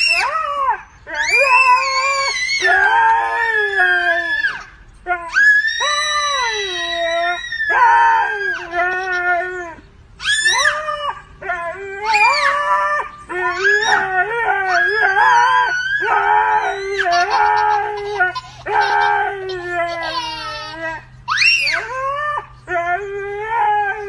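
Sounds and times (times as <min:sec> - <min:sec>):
dog howling: 0:00.0 - 0:24.0
toddler howling: 0:00.0 - 0:24.0.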